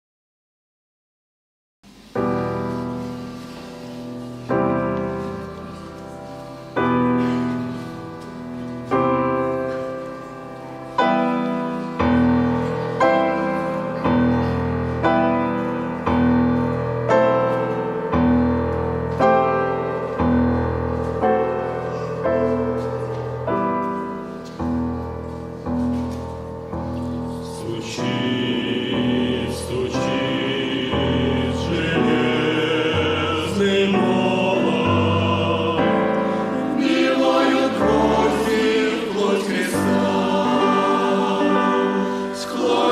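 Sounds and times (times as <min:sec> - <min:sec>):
slow piano chords: 0:01.9 - 0:42.9.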